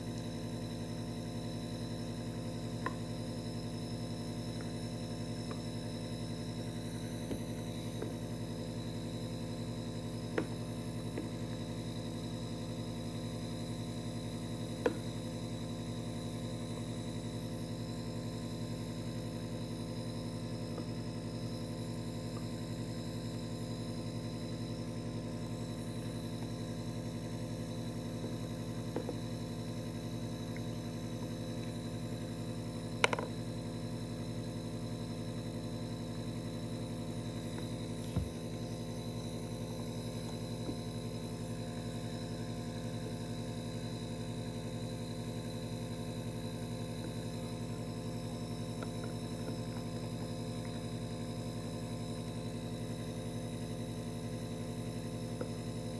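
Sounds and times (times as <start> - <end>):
droning hum: 0.0 - 55.9.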